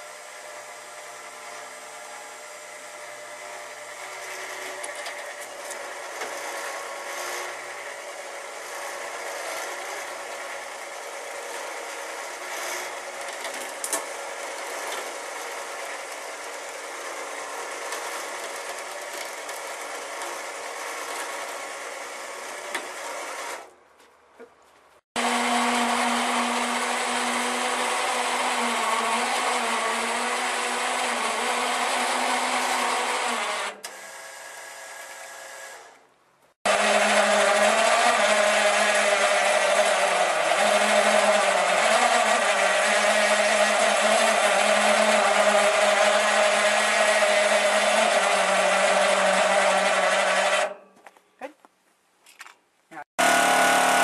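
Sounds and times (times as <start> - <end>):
firewood processor droning: 0.0 - 23.8, 25.2 - 36.0, 36.6 - 51.2, 53.0 - 54.0.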